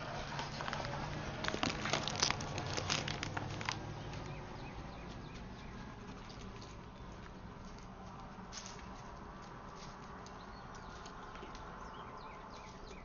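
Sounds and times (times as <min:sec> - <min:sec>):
deer crunching popcorn: 0:00.0 - 0:12.0.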